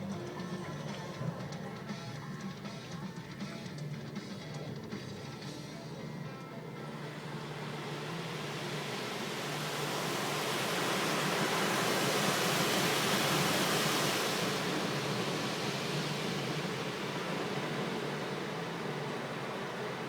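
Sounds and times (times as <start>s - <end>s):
car wash equipment rushing: 3.4s - 20.0s.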